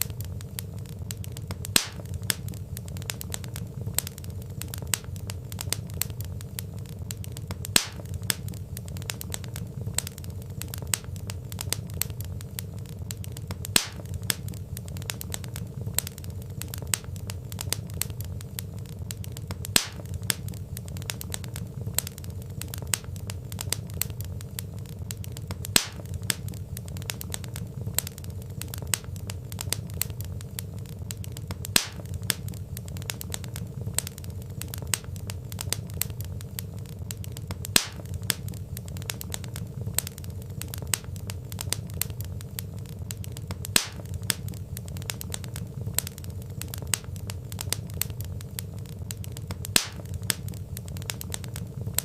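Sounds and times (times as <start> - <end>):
fire popping: 0.0 - 52.0
low steady rumble: 0.0 - 52.0
wood fire crackling: 0.0 - 52.0.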